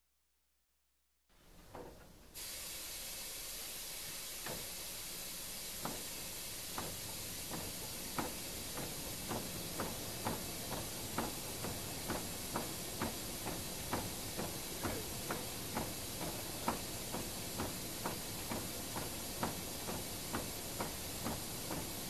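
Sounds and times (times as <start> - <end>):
machine hiss: 2.4 - 22.0.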